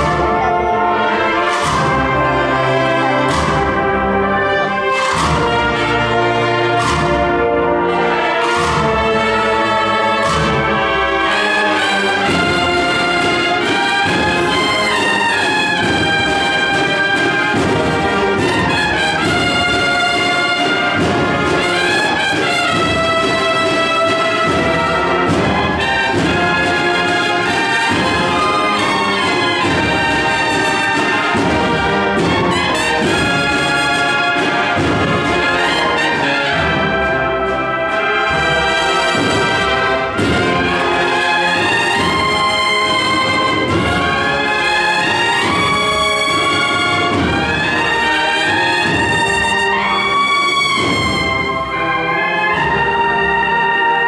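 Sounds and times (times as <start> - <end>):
cornets playing march melody: 0.0 - 54.0
drums beating: 0.0 - 54.0.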